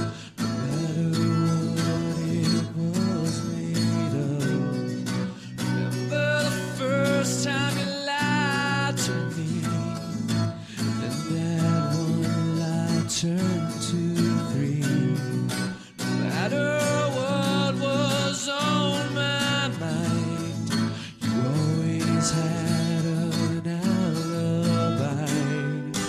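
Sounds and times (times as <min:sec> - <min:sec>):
acoustic guitar: 0:00.0 - 0:26.0
man singing: 0:00.0 - 0:26.0.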